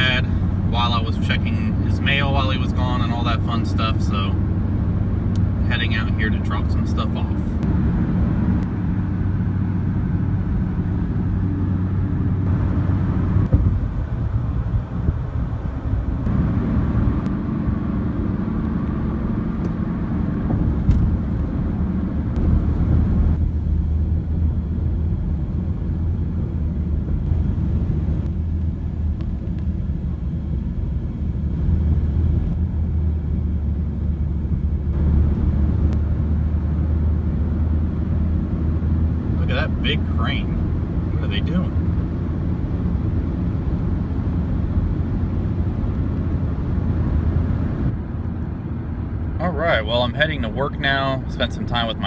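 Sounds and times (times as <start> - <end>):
car engine hum: 0.0 - 52.0.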